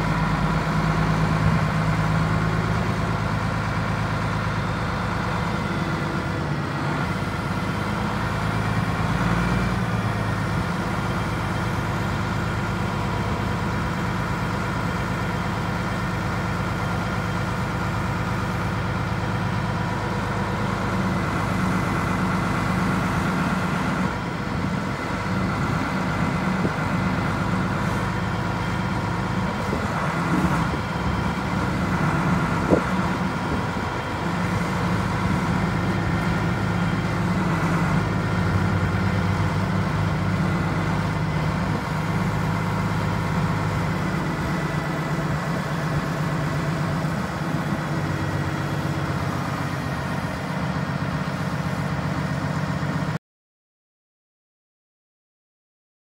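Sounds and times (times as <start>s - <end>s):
forklift diesel engine running: 0.0s - 53.2s.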